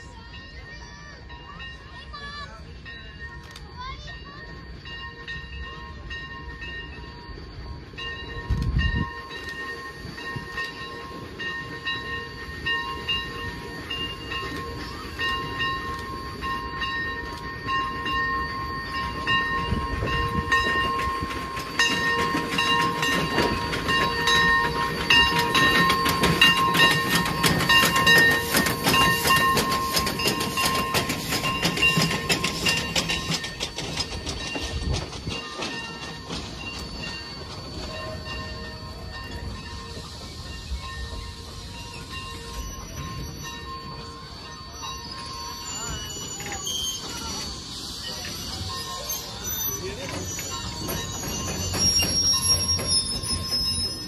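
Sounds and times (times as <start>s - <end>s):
high-pitched ringing tone: 0.0s - 54.0s
steam locomotive passing: 0.0s - 54.0s
wheels clicking over rail joints: 0.0s - 54.0s.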